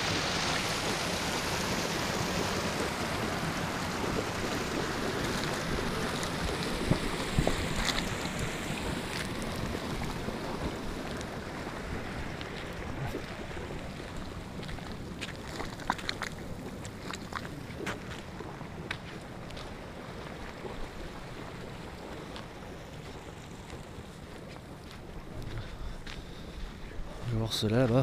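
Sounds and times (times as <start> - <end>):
geyser vents hissing and bubbling: 0.0 - 28.0.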